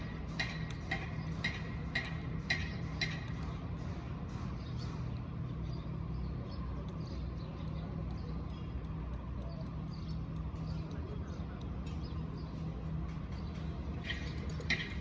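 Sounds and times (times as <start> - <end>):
faint regular ticking: 0.0 - 5.8, 6.8 - 15.0
diesel engine idling: 0.0 - 15.0.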